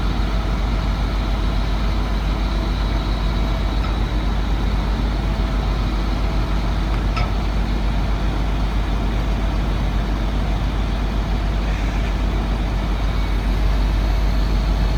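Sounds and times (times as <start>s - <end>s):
truck engine idling: 0.1s - 14.9s.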